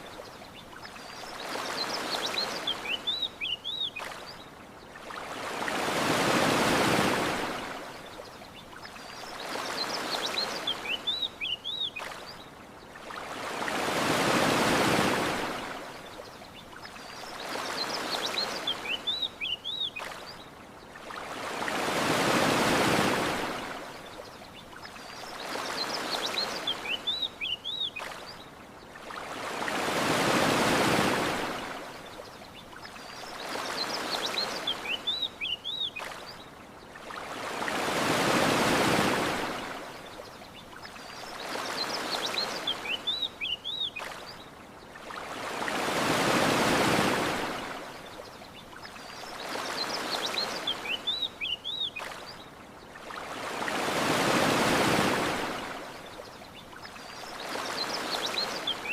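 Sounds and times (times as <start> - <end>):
ocean waves washing onto shore: 0.0 - 58.9.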